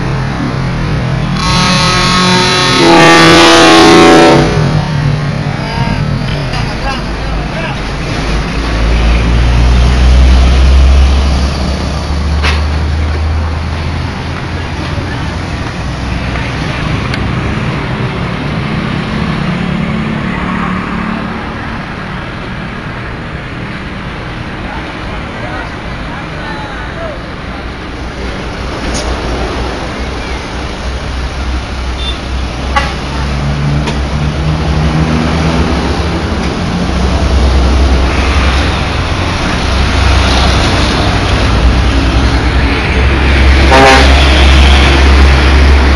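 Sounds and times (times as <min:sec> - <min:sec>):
bus diesel engine rumbling: 0:00.0 - 0:45.9
road traffic: 0:00.0 - 0:45.9.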